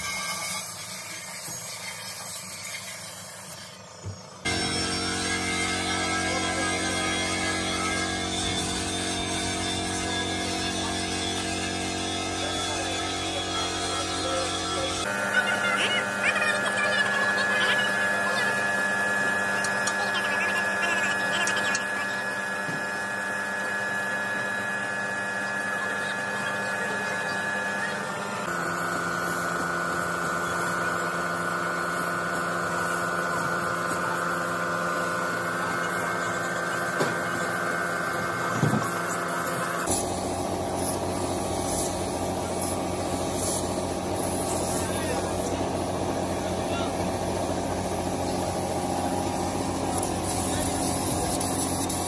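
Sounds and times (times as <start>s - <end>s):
spray gun spraying paint: 0.0s - 14.5s, 15.1s - 27.3s, 28.4s - 46.2s, 47.3s - 52.0s
air compressor humming: 0.0s - 52.0s.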